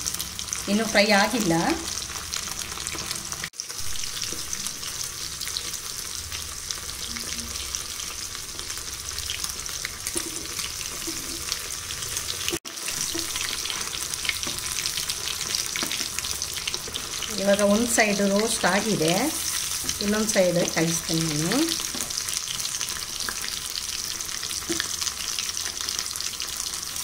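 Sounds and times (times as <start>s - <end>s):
fish deep-frying in oil: 0.0s - 27.0s.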